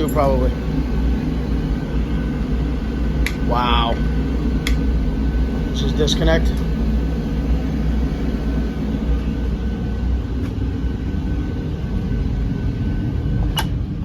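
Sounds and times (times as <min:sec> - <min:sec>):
boiler burner rumble: 0:00.0 - 0:14.0
faint steady whine: 0:00.0 - 0:14.0.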